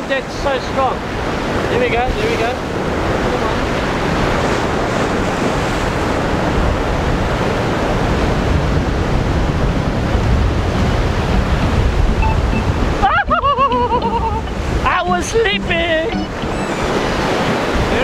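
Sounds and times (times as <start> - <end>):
wind buffeting microphone: 0.0 - 18.0
surf breaking on rocks: 0.1 - 18.0.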